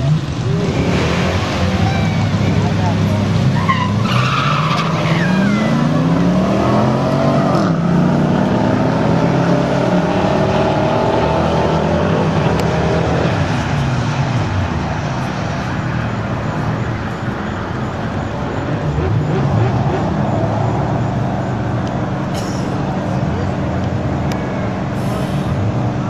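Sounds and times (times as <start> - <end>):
truck engine at full throttle: 0.0 - 26.0.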